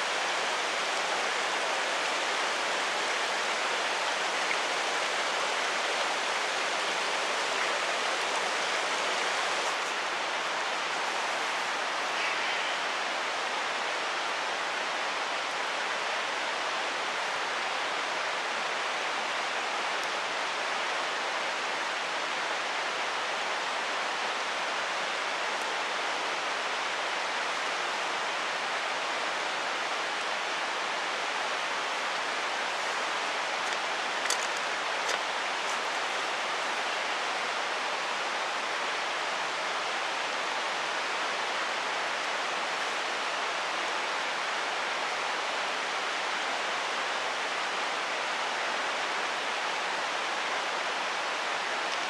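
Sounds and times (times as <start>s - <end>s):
mountain stream rushing: 0.0s - 52.0s.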